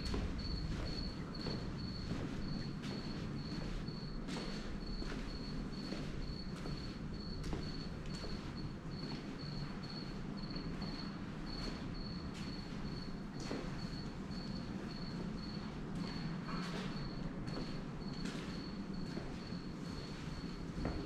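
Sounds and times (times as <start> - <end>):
cricket chirping: 0.0 - 21.0
steady low hum: 0.0 - 21.0.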